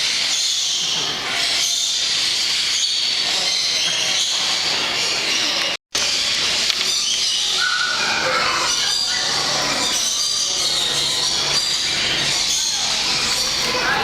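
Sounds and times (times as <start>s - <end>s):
birds calling and screeching: 0.0s - 14.0s.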